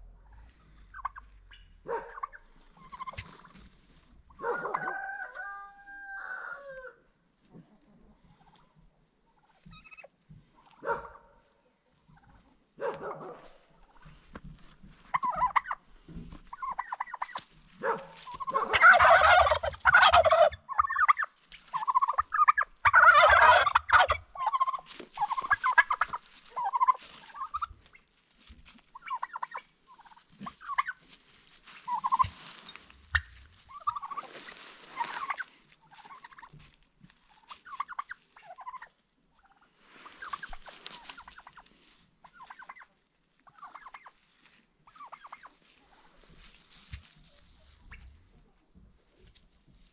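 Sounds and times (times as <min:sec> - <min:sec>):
turkeys gobbling: 0:00.0 - 0:07.0, 0:07.7 - 0:49.4.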